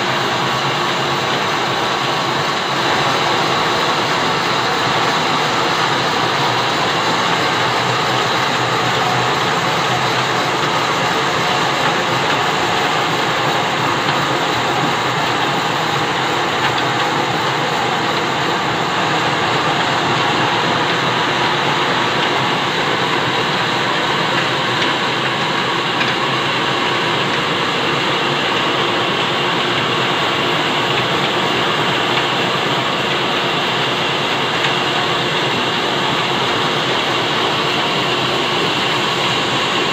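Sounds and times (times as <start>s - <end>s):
bandsaw mill and engine running: 0.0s - 39.9s.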